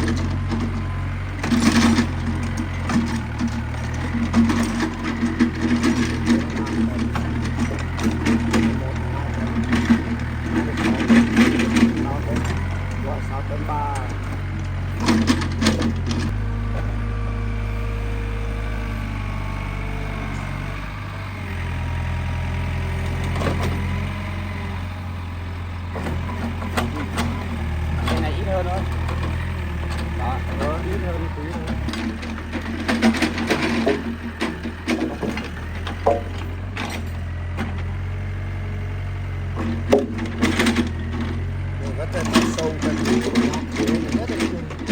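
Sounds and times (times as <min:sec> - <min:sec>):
excavator diesel engine: 0:00.0 - 0:44.9
knocks and clunks of logs: 0:00.0 - 0:44.9.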